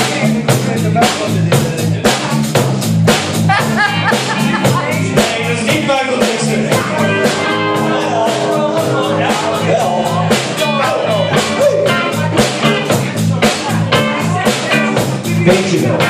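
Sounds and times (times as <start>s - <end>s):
bass guitar: 0.0s - 16.0s
drum kit beat: 0.0s - 16.0s
electric guitar: 3.1s - 16.0s.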